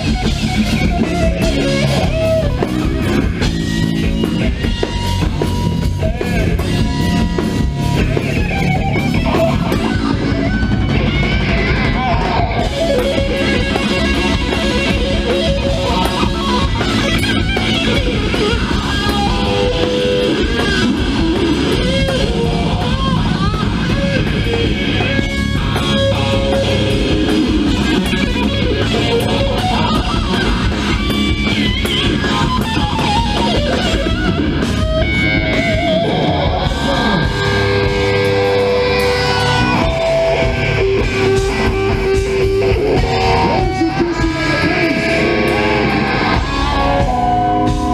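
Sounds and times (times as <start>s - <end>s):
lead guitar bending notes: 0.0s - 47.9s
live rock band playing: 0.0s - 47.9s.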